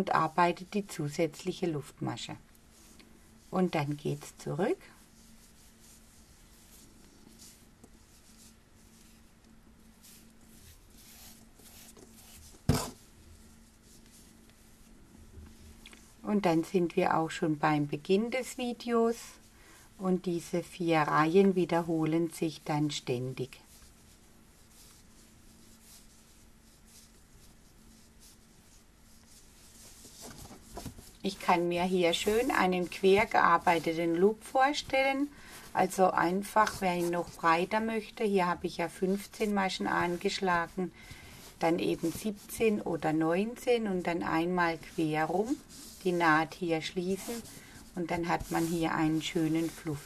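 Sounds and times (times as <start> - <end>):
yarn rustling with crochet hook: 0.0 - 15.1, 15.7 - 50.0
faint steady hum: 0.0 - 50.0.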